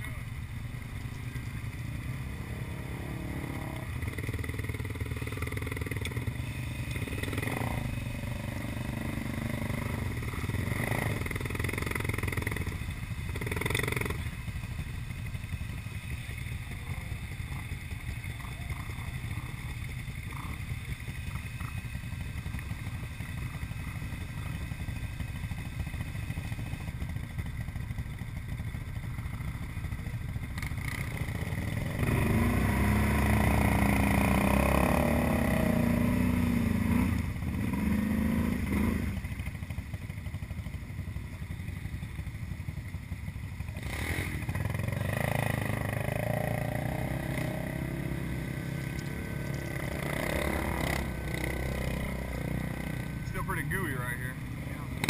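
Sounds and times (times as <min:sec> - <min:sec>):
atv engines idling: 0:00.0 - 0:55.0.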